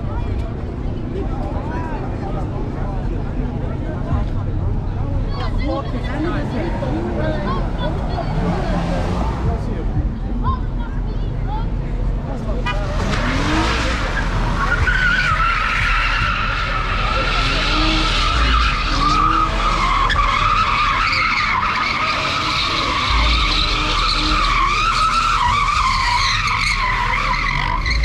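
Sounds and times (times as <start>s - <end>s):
car engine revving: 0.0s - 28.0s
car tyres squealing: 0.0s - 28.0s.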